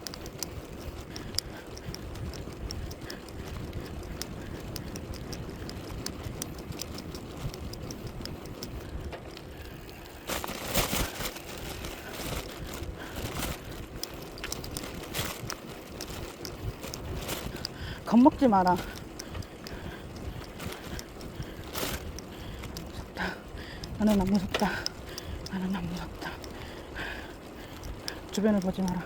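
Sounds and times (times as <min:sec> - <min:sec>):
bicycle rattling clicks: 0:00.0 - 0:29.0
wind and road noise rumble: 0:00.0 - 0:29.0.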